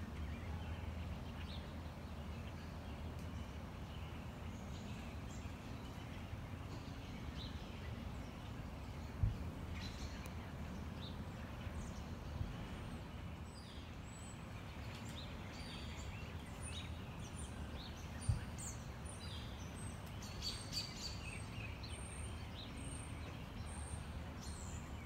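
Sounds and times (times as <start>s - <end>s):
low outdoor rumble: 0.0s - 25.0s
small birds chirping: 0.1s - 25.0s.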